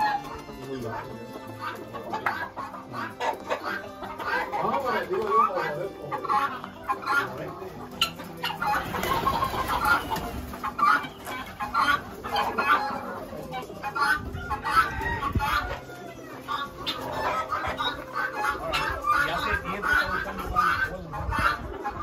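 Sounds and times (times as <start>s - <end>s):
guineafowl and chickens calling: 0.0s - 22.0s.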